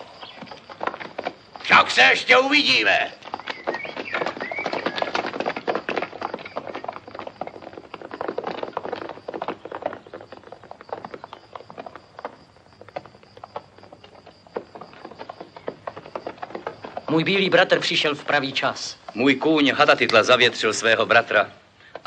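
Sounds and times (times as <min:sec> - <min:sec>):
horses galloping: 0:00.0 - 0:22.0.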